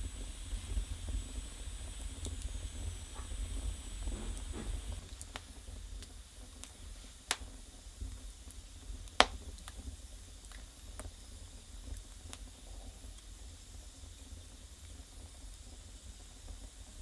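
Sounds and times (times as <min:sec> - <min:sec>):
low rumble of fire: 0:00.0 - 0:17.0
wood fire crackling and popping: 0:00.0 - 0:17.0.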